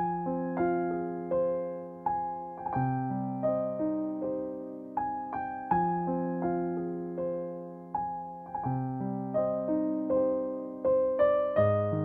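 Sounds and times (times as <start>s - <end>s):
slow piano notes and chords: 0.0s - 12.0s.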